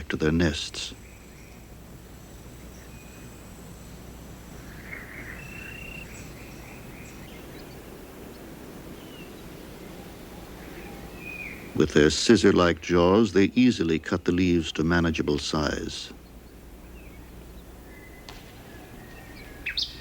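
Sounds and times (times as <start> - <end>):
high bird or insect calls: 0.0 - 20.0
low background haze: 0.0 - 20.0.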